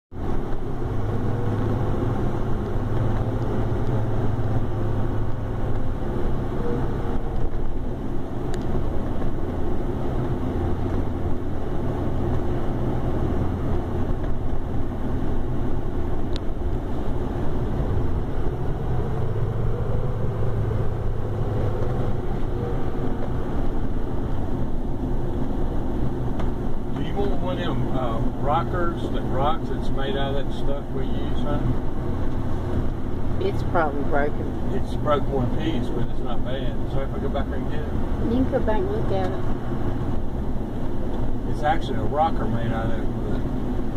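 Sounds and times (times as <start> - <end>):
truck engine and road noise: 0.1 - 43.9.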